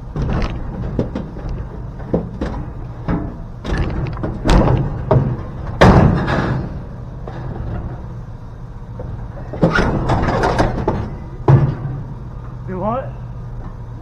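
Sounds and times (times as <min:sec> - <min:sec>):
heavy clunks and knocks: 0:00.0 - 0:08.2, 0:08.9 - 0:12.4.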